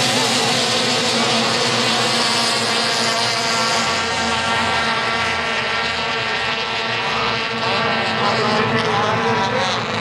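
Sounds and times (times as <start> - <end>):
outboard motors racing: 0.0 - 10.0.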